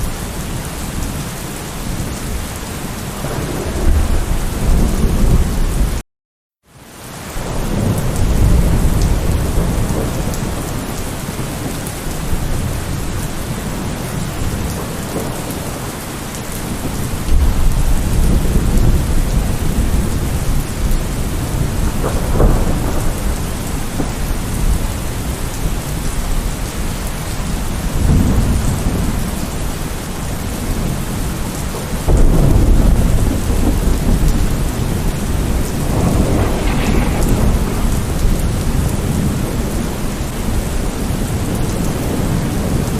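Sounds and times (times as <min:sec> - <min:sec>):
steady rain falling: 0:00.0 - 0:06.0, 0:06.7 - 0:42.9
rolling thunder: 0:03.1 - 0:06.0, 0:07.3 - 0:42.9.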